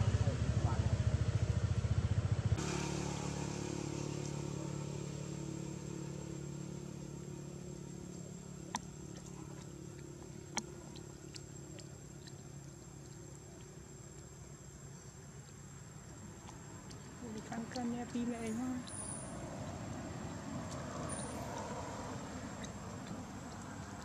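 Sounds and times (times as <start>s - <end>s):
vehicle engine drone: 0.0s - 24.0s.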